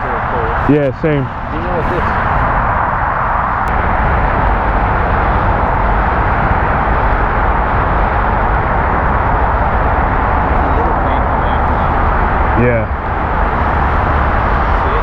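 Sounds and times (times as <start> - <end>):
jet engine roaring: 0.0 - 15.0.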